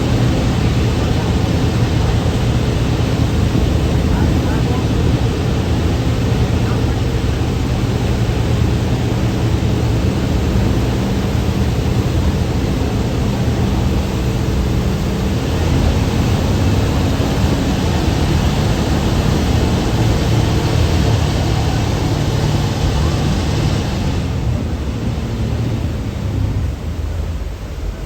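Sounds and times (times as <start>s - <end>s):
boat engine hum: 0.0s - 28.0s
water rushing hiss: 0.0s - 28.0s.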